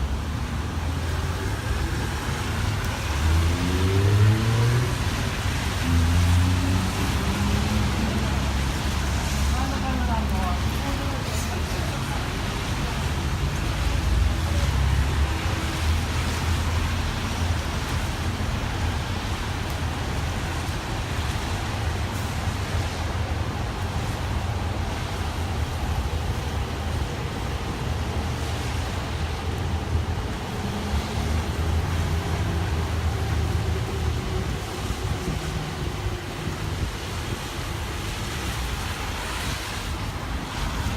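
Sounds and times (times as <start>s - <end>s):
passing vehicles: 0.0s - 40.9s
roadway noise: 0.0s - 40.9s.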